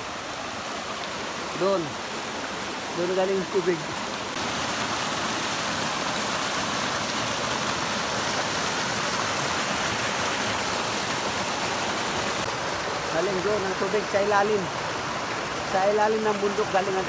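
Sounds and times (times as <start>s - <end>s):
stream splashing over rocks: 0.0s - 17.0s.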